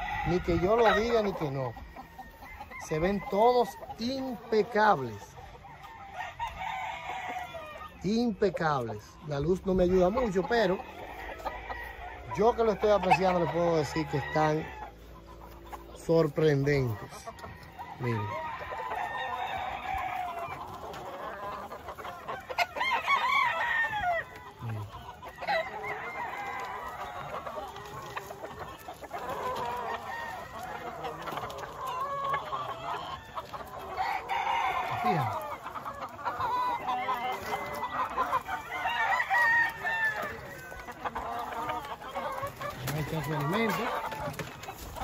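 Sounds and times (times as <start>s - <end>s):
roosters crowing and clucking: 0.0s - 45.0s.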